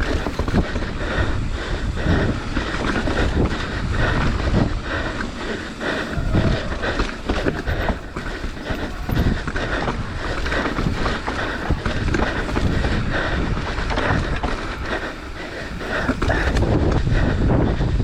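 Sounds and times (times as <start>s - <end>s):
tyres rolling over dirt and rock: 0.0s - 17.1s
bike frame and chain rattling: 0.0s - 17.7s.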